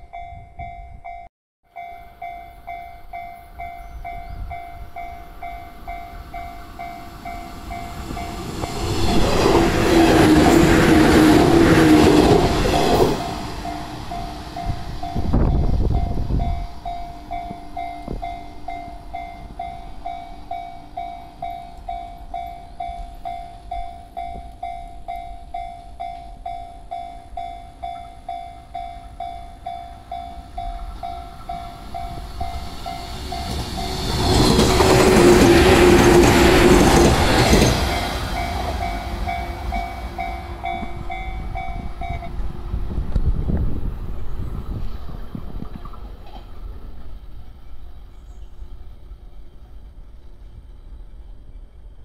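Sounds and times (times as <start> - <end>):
train wheels rushing on rails: 3.6 - 25.2, 27.3 - 52.0.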